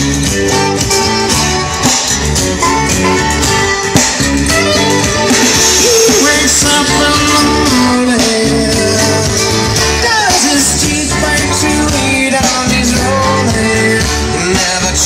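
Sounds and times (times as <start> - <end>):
heavy bass: 0.0 - 15.0
rock music with singing: 0.0 - 15.0.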